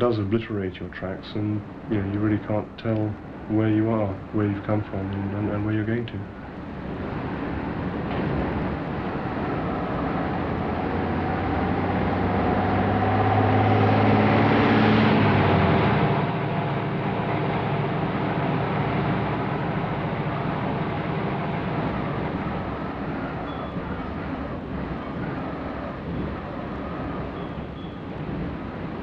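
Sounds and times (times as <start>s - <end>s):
steady rushing noise: 0.0s - 29.0s
truck engine running: 0.9s - 29.0s.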